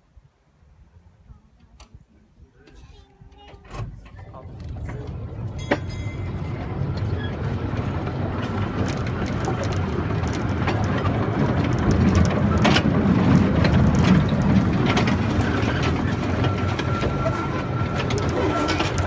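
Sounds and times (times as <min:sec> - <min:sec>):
train rumbling: 0:02.7 - 0:19.0
rattles and clanks: 0:03.4 - 0:19.0.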